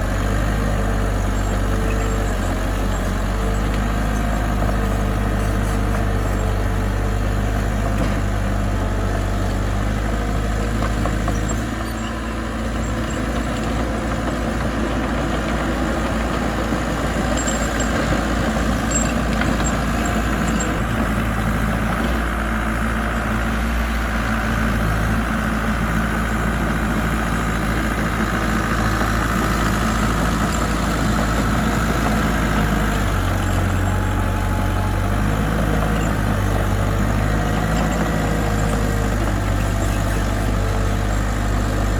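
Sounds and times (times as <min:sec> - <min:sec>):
diesel engine humming: 0:00.0 - 0:41.9.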